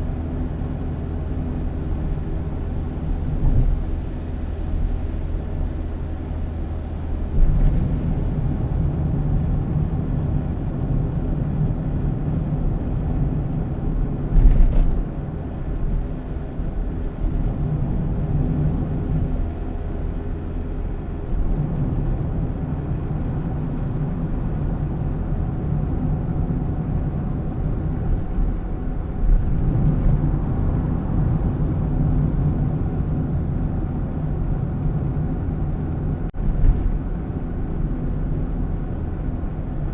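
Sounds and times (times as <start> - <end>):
car engine hum: 0.0 - 39.9
road noise: 0.0 - 39.9.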